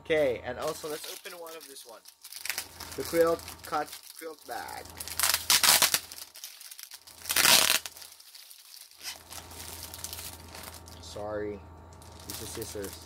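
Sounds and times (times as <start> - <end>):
plastic packaging crinkling: 0.6 - 11.1, 11.9 - 13.0.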